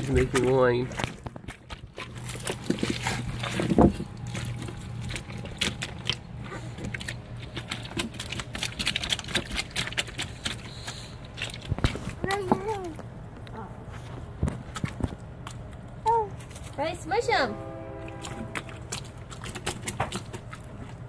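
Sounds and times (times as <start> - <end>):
feet squishing grapes: 0.0 - 16.9, 17.9 - 21.0.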